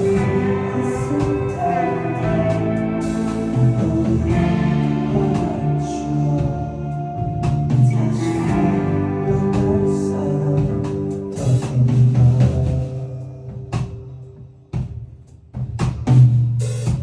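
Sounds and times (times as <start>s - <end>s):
live band music: 0.0s - 14.1s.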